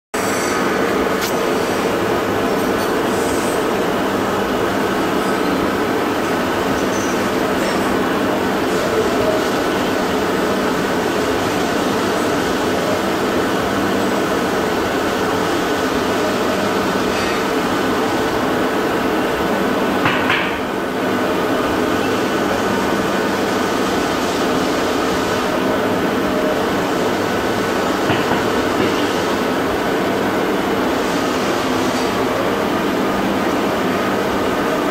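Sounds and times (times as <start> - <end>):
furnace burner roaring: 0.2 - 34.9.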